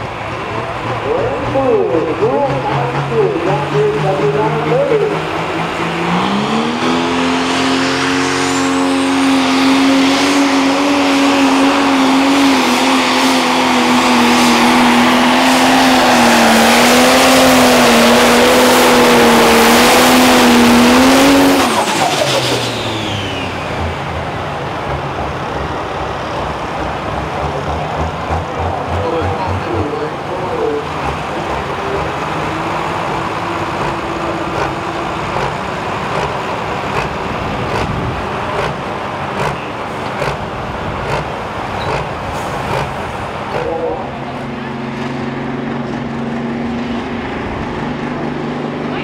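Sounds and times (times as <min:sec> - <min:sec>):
diesel tractor engine at full throttle: 0:00.0 - 0:49.0.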